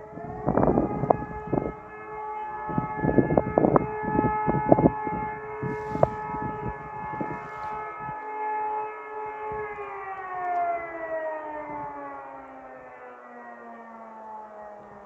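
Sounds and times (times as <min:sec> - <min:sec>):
civil defence siren: 0:00.0 - 0:15.0.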